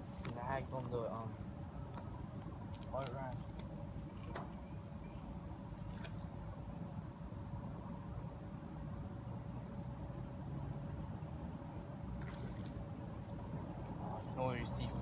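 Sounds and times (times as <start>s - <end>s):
insect high-pitched trill: 0.0s - 12.0s, 12.7s - 15.0s
insect short chirp: 0.0s - 15.0s.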